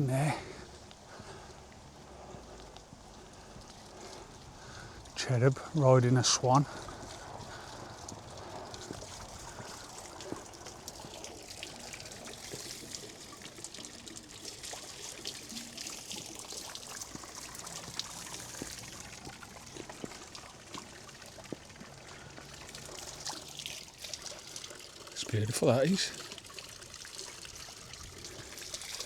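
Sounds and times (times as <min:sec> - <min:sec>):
fountain water splashing: 0:00.0 - 0:29.0.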